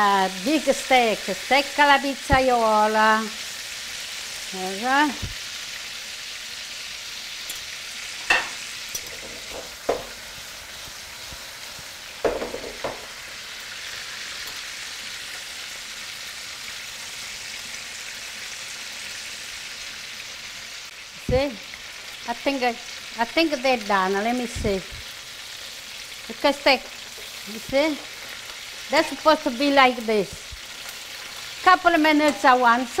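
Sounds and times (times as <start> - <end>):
steaks sizzling in a pan: 0.0 - 33.0.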